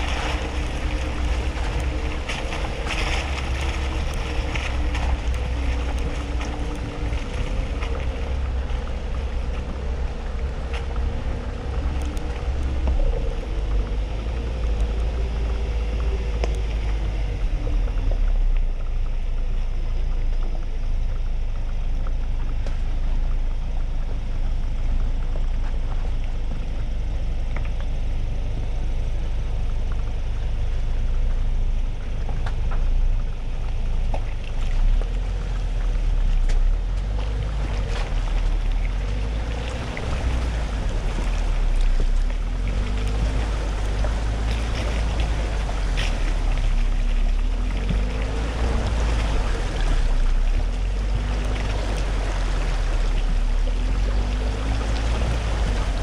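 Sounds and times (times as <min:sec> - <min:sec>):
knocks and clicks from rough ground: 0:00.0 - 0:52.1
engine and tyres rumbling: 0:00.0 - 0:56.0.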